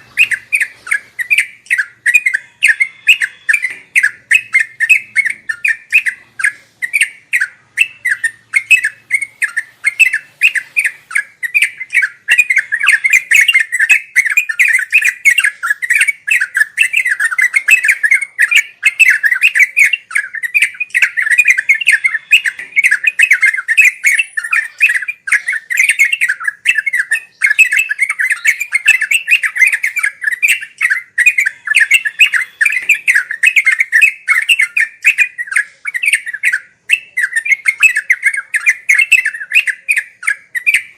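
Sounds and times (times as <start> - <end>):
bulbul chattering song: 0.0 - 40.9.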